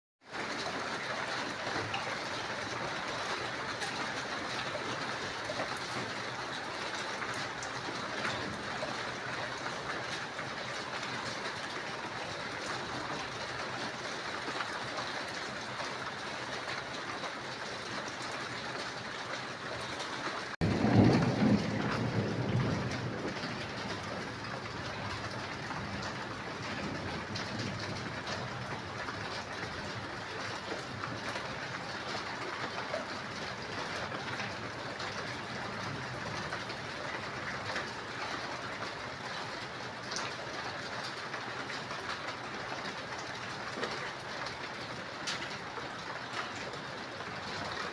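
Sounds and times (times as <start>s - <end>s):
steady rain falling: 0.2s - 47.9s.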